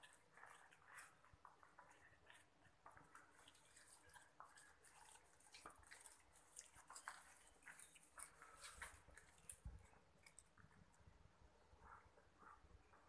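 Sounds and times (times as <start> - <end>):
cat chewing meat: 0.0 - 13.0.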